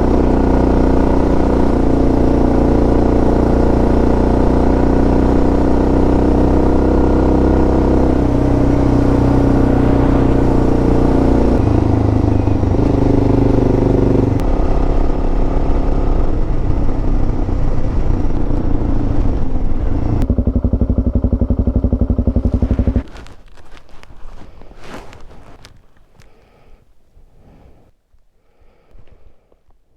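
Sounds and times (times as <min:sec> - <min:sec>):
single-cylinder motorcycle engine: 0:00.0 - 0:26.4.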